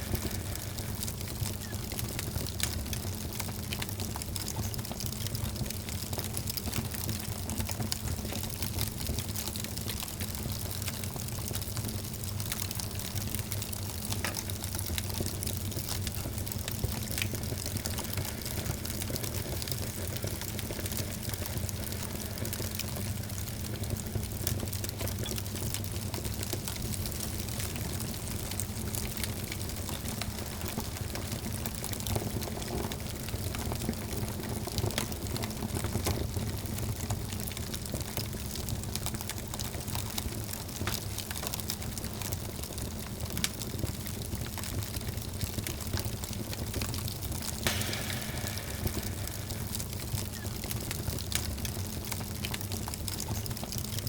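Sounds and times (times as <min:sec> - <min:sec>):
low noise of flames: 0:00.0 - 0:54.0
wood fire crackling and popping: 0:00.0 - 0:54.0.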